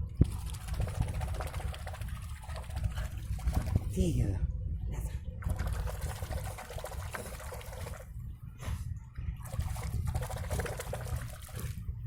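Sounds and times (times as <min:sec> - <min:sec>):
water trickling and splashing: 0:00.1 - 0:04.1, 0:05.4 - 0:08.3, 0:09.3 - 0:12.0.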